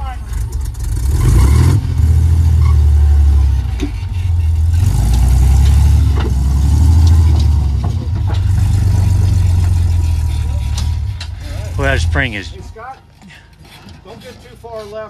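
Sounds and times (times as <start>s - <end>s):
jeep engine pulling at low speed: 0.0s - 13.2s.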